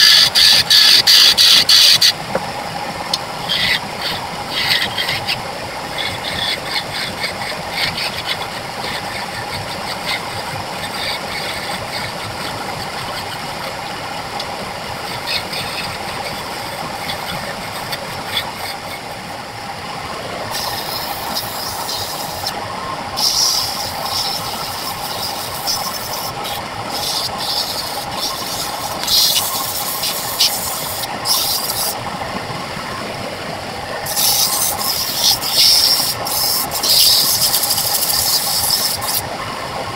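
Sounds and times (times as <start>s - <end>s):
tool scraping spinning wood: 0.0s - 32.3s, 33.8s - 39.3s
wood lathe running: 0.0s - 33.0s, 33.6s - 39.8s.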